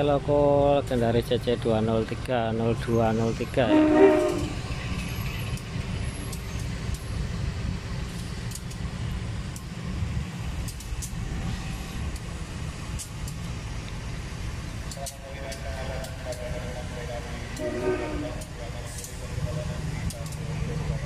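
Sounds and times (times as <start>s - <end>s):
locomotive engine and wheel rumble: 0.0s - 21.0s.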